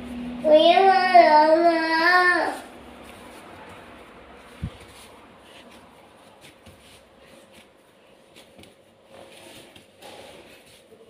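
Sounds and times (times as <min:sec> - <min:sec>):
dough kneaded by hand: 0:00.0 - 0:11.0.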